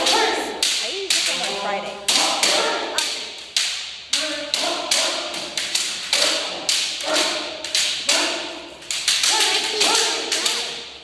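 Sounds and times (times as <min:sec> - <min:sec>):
bamboo swords clacking: 0:00.0 - 0:11.0.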